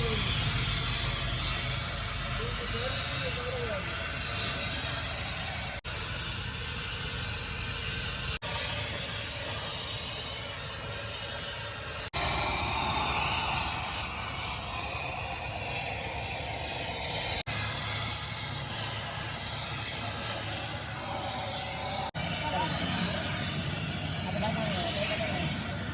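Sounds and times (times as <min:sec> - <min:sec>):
high-pitched machinery hiss: 0:00.0 - 0:25.9.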